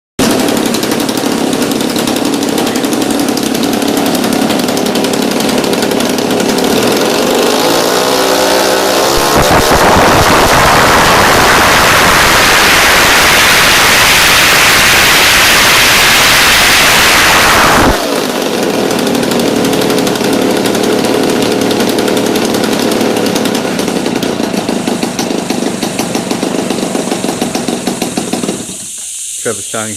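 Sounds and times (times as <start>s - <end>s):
model plane engines revving: 0.2s - 28.9s.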